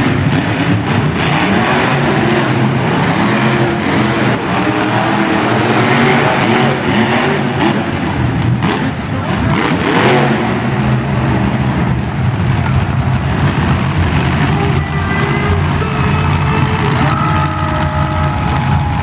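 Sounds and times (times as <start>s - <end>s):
monster truck engines revving: 0.0s - 19.0s.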